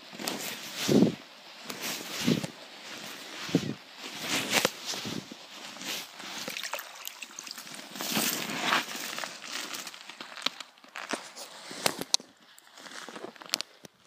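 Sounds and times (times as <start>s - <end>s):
snow crunching and rustling: 0.0s - 13.9s.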